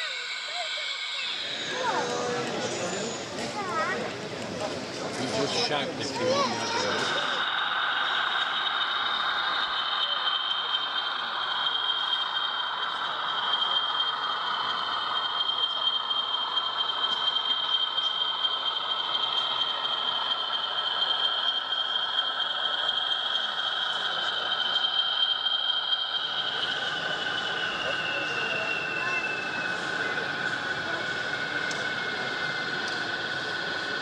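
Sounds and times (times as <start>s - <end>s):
model train rattling: 0.0s - 34.0s
model train whine: 0.0s - 34.0s.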